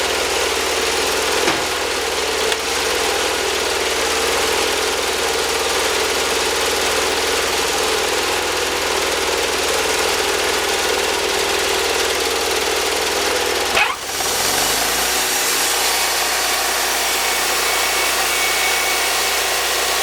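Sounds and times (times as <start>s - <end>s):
sawmill engine running steadily: 0.0s - 20.0s.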